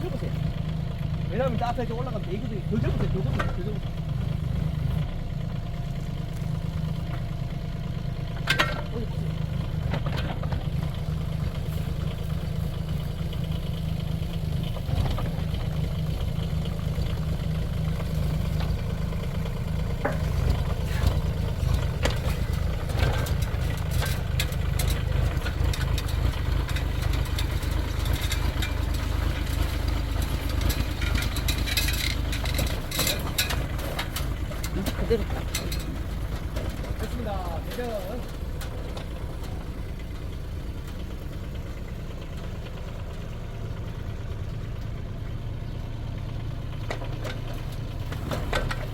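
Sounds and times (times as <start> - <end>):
excavator engine running: 0.0 - 48.9.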